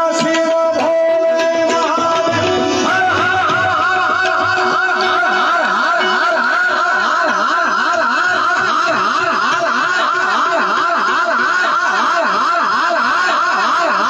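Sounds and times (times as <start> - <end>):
crowd crying out: 1.7 - 14.0.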